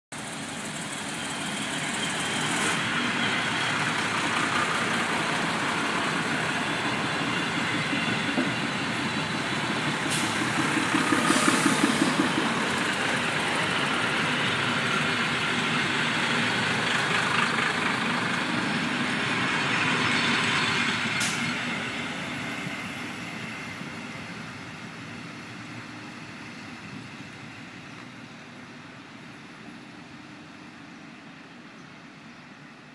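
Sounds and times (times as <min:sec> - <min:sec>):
diesel railcar engines rumbling: 0:00.1 - 0:32.9.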